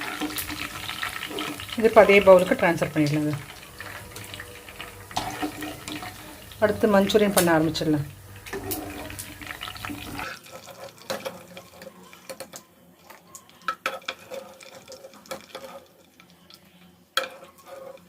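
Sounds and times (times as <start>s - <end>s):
metal utensils clinking on pan: 0.0s - 16.2s, 17.2s - 18.0s.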